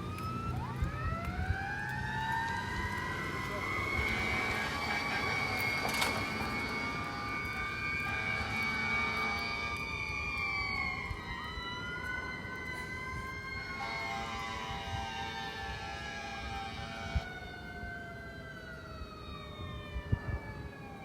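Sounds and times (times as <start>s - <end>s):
fire engine siren wailing: 0.0s - 21.0s
truck rumble: 0.0s - 21.0s.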